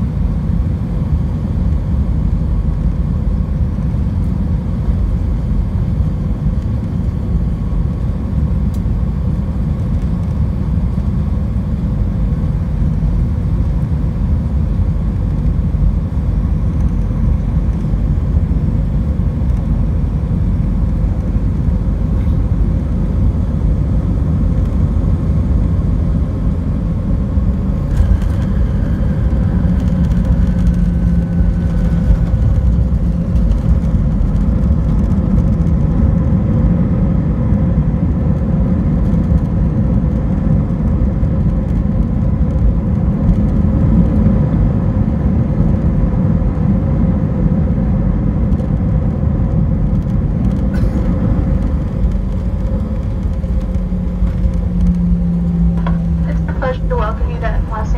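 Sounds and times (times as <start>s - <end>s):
jet engines and wheels rumbling: 0.0s - 57.9s.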